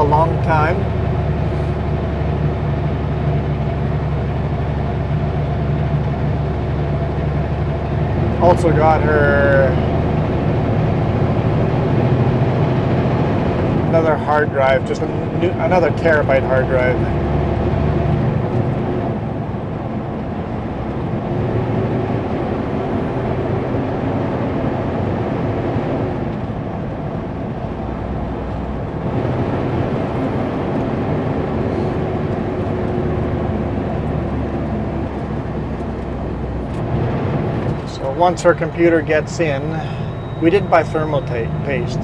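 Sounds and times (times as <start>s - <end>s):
road noise: 0.0s - 42.0s
truck engine drone: 0.0s - 42.0s.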